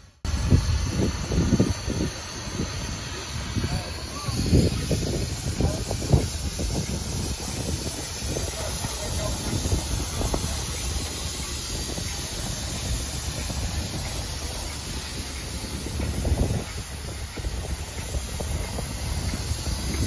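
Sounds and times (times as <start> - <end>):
steam hissing: 0.0 - 20.0
wind rumble on microphone: 0.0 - 20.0.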